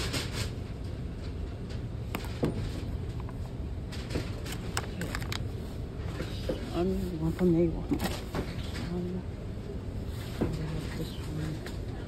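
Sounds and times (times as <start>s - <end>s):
low store background rumble: 0.0s - 12.0s.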